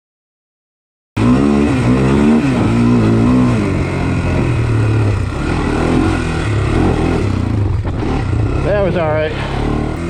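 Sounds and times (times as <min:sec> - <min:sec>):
atv engine revving: 0:01.2 - 0:10.0.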